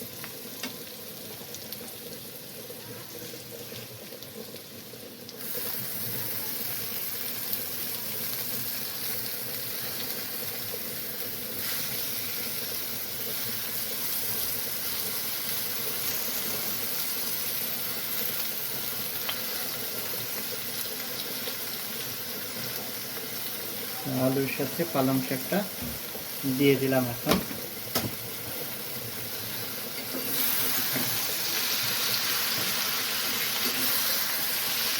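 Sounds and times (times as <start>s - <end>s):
potatoes sizzling in oil: 0.0s - 34.9s.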